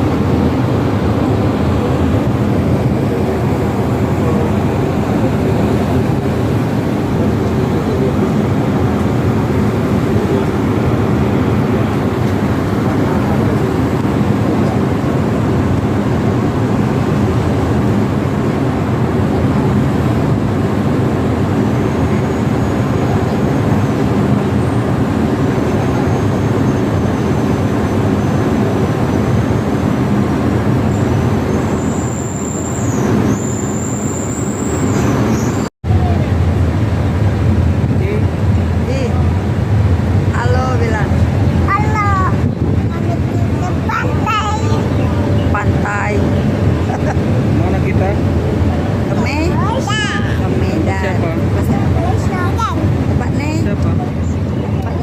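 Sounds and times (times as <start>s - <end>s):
ship engines droning: 0.0s - 55.0s.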